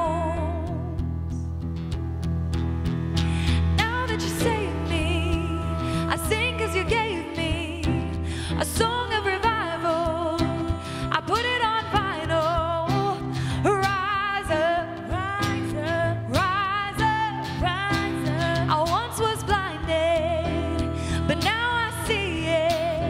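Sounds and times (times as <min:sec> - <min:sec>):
singer with vibrato: 0:03.3 - 0:23.0.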